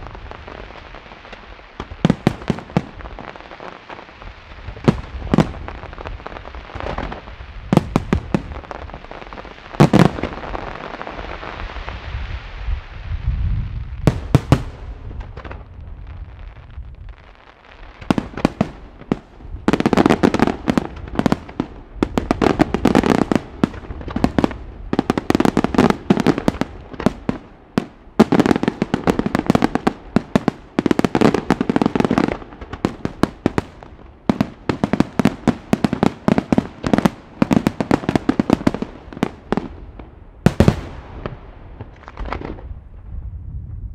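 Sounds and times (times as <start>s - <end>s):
rapid volleys of fireworks reports: 0.0s - 43.0s
fireworks bursting and crackling: 0.0s - 43.4s.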